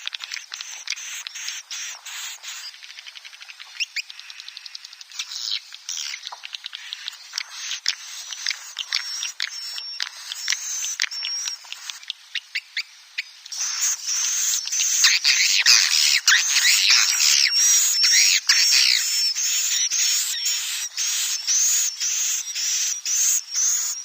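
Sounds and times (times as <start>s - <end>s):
birds twittering clicks and chirps: 0.0s - 24.0s.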